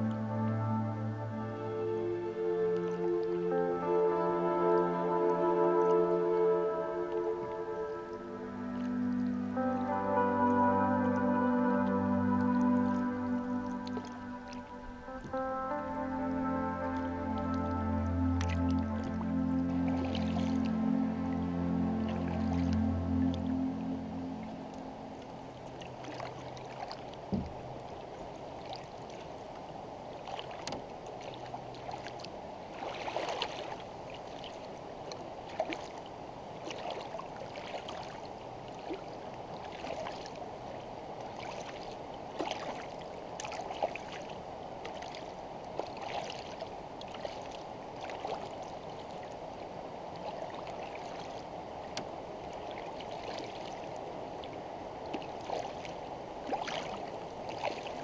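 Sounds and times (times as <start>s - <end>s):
water washing along hull: 0.0s - 58.0s
paddle splashes and drips: 4.3s - 58.0s.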